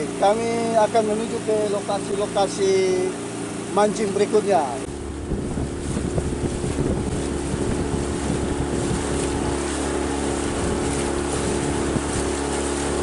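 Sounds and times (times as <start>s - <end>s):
outboard motor running: 0.0s - 13.0s
wind and water rushing: 0.0s - 13.0s.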